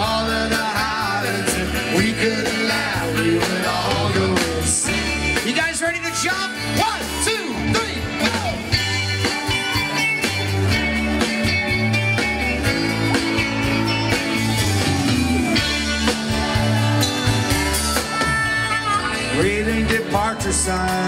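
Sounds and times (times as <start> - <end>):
bass guitar: 0.0 - 21.0
drums: 0.0 - 21.0
electric guitars: 0.0 - 21.0.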